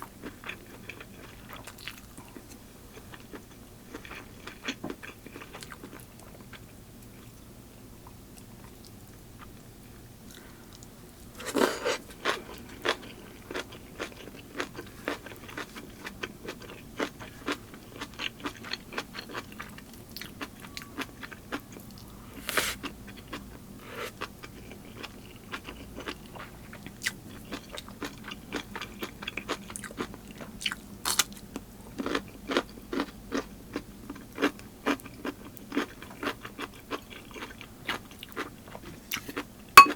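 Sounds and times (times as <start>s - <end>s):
person chewing crunchy food: 0.2s - 6.5s, 10.3s - 39.9s.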